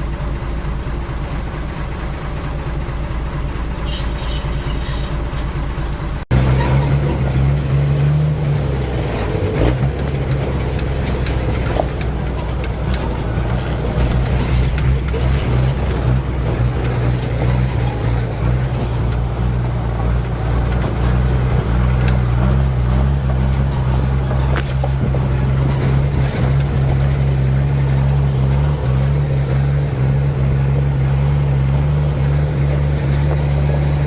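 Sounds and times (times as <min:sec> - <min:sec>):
truck engine humming: 0:00.0 - 0:34.0.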